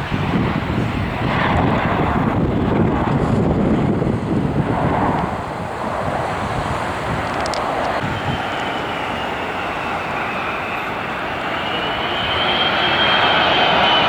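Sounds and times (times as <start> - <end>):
airliner engines rumbling: 0.0 - 14.0
wind buffeting microphone: 0.0 - 14.0.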